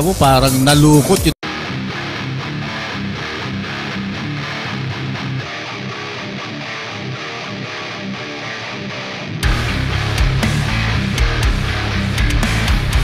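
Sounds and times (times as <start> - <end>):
guitar background music: 0.0 - 13.0.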